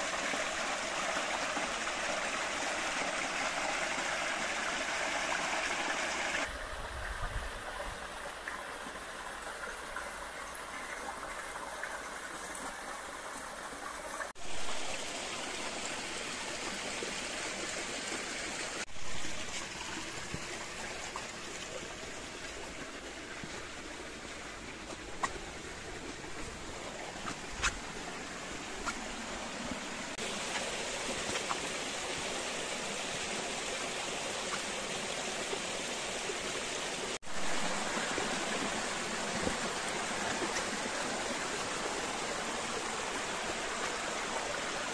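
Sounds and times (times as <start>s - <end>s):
stream rushing: 0.0s - 44.9s.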